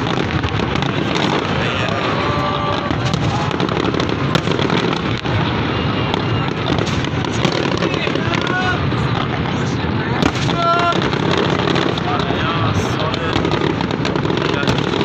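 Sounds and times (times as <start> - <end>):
fireworks bangs and crackle: 0.0 - 15.0.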